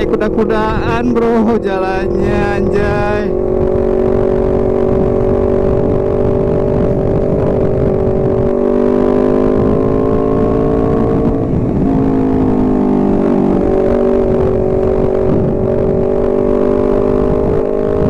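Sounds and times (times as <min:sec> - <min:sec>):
low rumble: 0:00.0 - 0:16.3
motorcycle engine running: 0:00.0 - 0:18.0.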